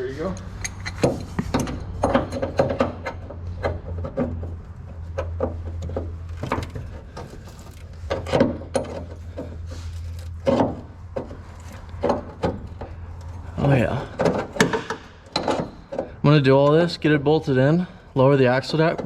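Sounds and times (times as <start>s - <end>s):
metal tools knocking and scraping: 0.5s - 16.2s.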